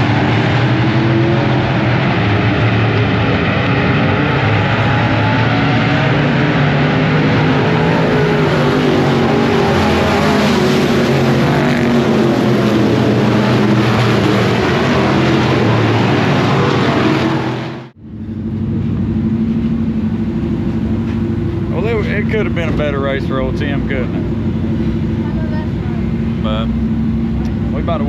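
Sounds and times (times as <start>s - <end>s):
race car engines at full throttle: 0.0s - 28.0s
steady engine hum: 0.0s - 28.0s.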